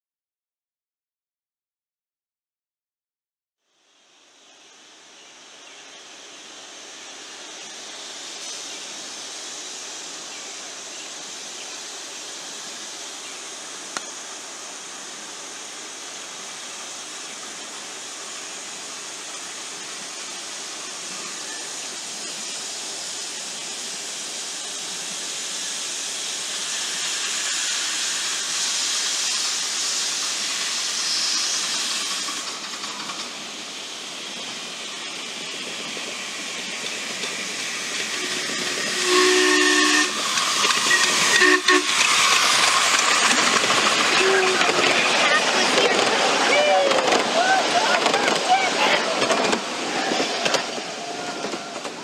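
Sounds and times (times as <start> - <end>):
steam locomotive hiss: 3.8 - 52.0.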